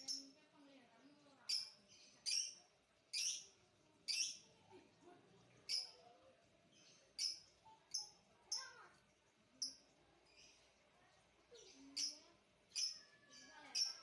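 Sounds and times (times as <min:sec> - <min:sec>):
small bird chirping: 0:00.0 - 0:04.6, 0:05.6 - 0:06.1, 0:06.7 - 0:08.9, 0:09.5 - 0:14.0.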